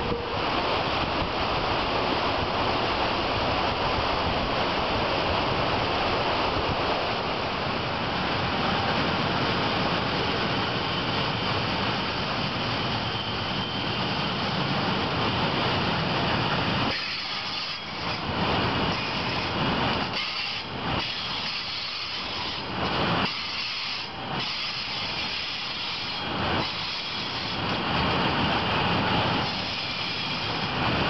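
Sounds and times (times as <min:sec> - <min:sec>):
freight train wagons rolling past: 0:00.0 - 0:31.0.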